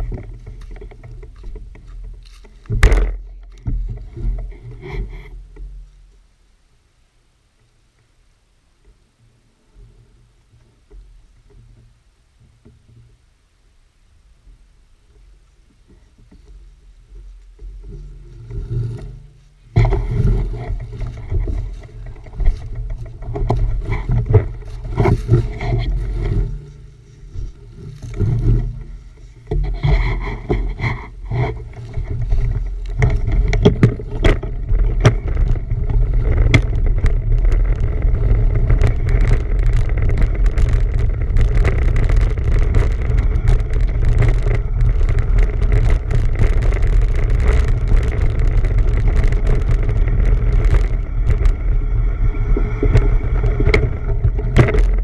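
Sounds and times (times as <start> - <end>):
rattles and knocks from bumps: 0.0 - 6.2, 15.1 - 55.0
wind rumbling on microphone: 0.0 - 6.3, 14.3 - 55.0.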